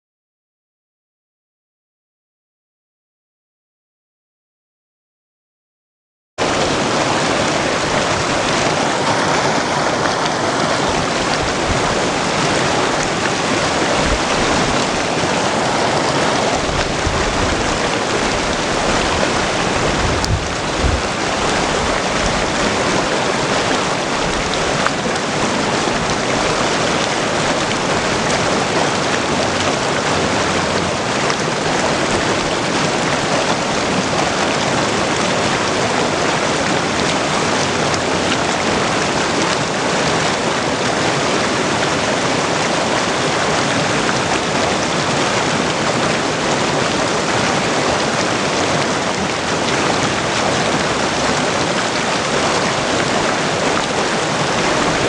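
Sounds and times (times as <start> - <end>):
creek water rushing over stones: 6.4 - 55.0.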